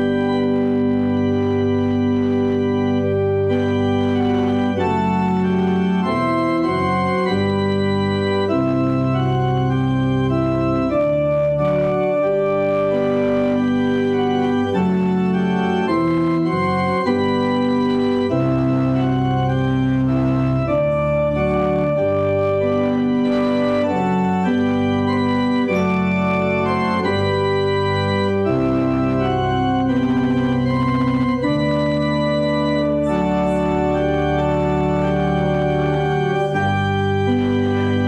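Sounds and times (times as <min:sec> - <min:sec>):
organ chords: 0:00.0 - 0:38.0.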